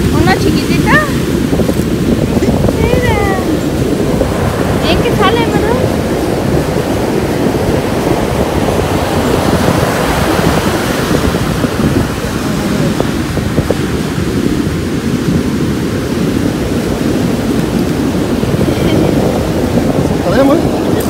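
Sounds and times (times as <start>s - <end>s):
surf: 0.0s - 21.0s
wind on microphone: 0.0s - 21.0s.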